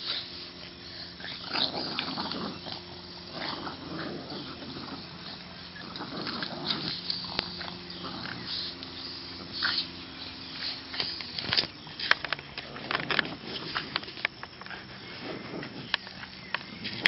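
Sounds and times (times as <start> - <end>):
dogs growling in play: 0.0 - 17.0.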